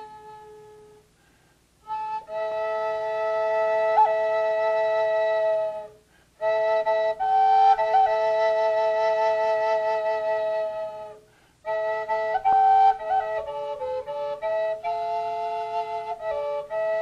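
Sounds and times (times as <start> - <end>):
wooden flute playing slow melody: 0.0 - 17.0.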